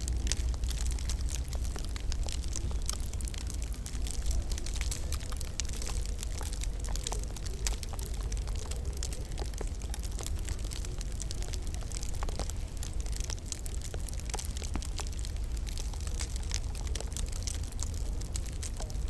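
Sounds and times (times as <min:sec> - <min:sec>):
low rumble of fire: 0:00.0 - 0:19.0
wood fire crackling: 0:00.0 - 0:19.0.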